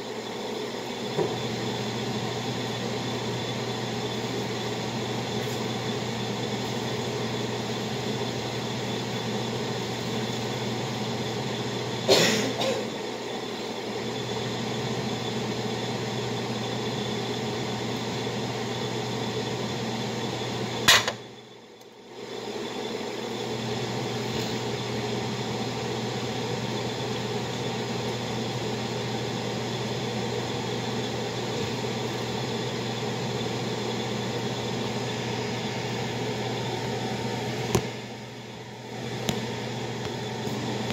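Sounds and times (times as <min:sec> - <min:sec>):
appliance mechanical hum: 0:00.0 - 0:40.9.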